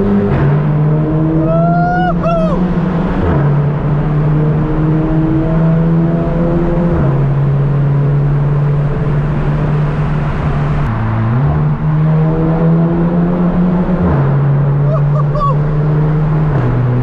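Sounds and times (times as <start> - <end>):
car engine and exhaust driving: 0.0 - 17.0.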